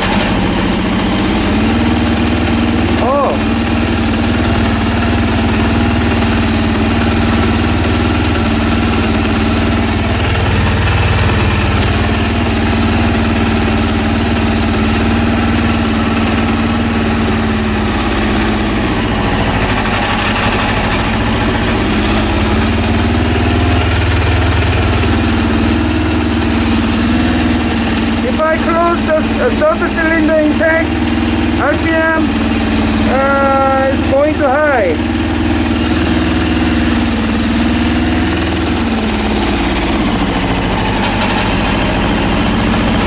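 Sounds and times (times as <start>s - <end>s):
motorcycle engine idling: 0.0s - 43.0s
strange mechanical noise: 0.0s - 43.0s.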